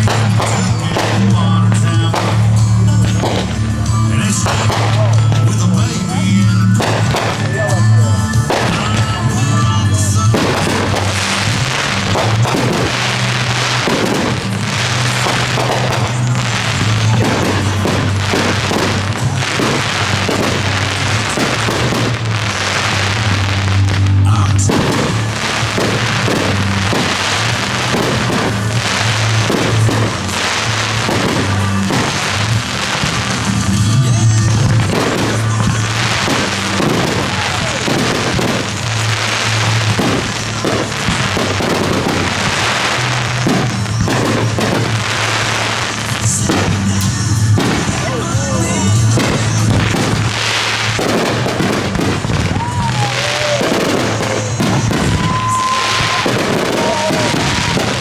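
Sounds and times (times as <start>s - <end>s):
aerial fireworks exploding: 0.0s - 58.0s
music with low bass: 0.0s - 58.0s.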